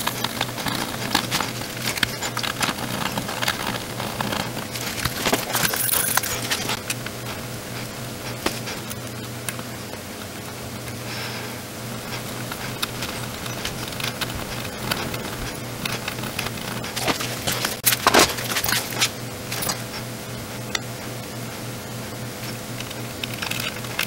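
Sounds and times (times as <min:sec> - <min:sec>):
small clicks and crackles: 0:00.0 - 0:11.0, 0:11.9 - 0:20.0, 0:22.4 - 0:24.0
low electrical hum: 0:00.0 - 0:24.0.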